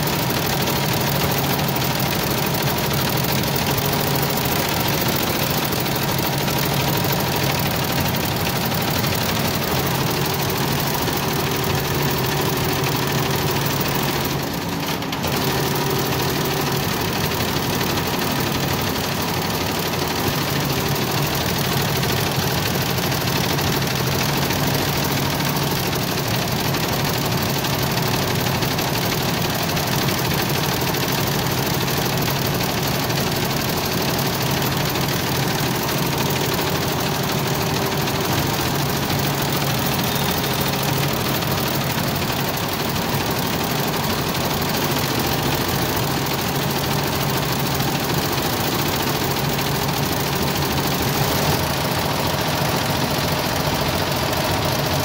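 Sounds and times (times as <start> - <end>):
embroidery machine stitching: 0.0 - 55.0.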